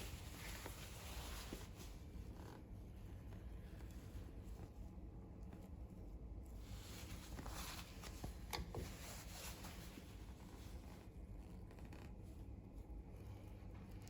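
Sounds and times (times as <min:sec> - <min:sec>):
room hiss: 0:00.0 - 0:14.0
soft rustle: 0:00.0 - 0:14.0.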